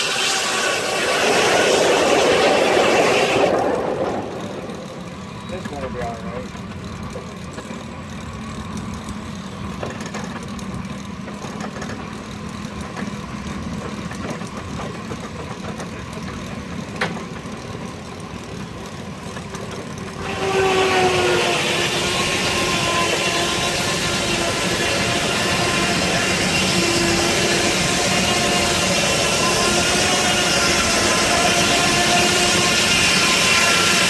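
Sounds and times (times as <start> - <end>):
circular saw whining through log: 0.0 - 34.0
sawmill running: 0.0 - 34.0.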